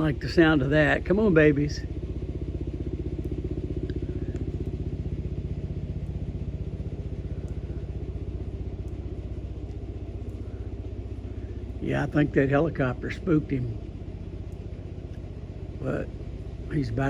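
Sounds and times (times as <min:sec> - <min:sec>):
helicopter rotor beating: 0:00.0 - 0:17.0.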